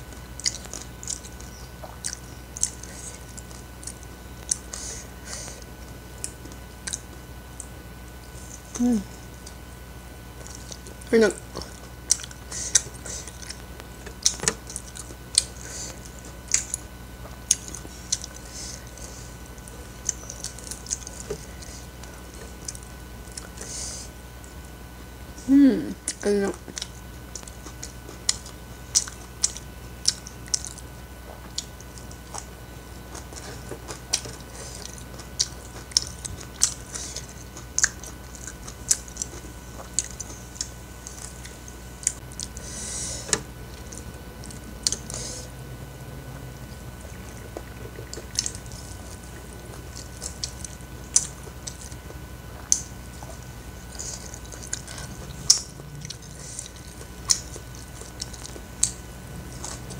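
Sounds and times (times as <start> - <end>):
wet chewing and lip smacks: 0.4 - 5.6, 6.2 - 7.7, 10.4 - 23.7, 26.0 - 45.3, 47.0 - 59.9.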